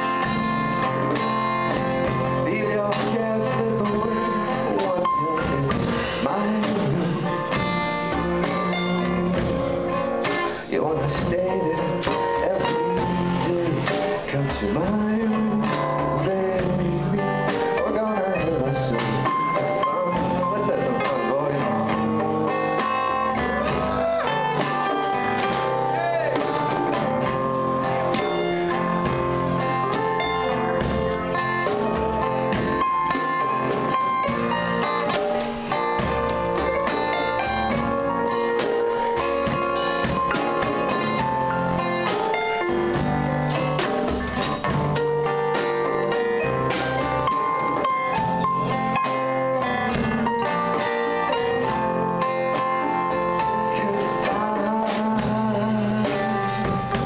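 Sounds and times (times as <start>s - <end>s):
drum kit: 0.0s - 57.0s
lead guitar: 0.0s - 57.0s.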